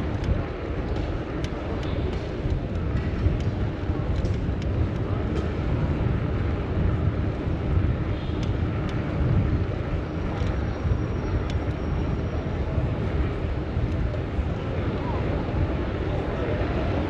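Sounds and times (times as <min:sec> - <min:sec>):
street traffic: 0:00.0 - 0:17.0
wind on microphone: 0:00.0 - 0:17.0.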